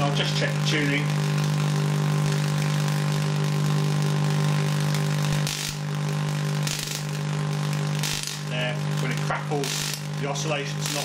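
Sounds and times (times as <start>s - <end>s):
electrical discharge crackling: 0.0s - 11.0s
electrical hum with hiss: 0.0s - 11.0s.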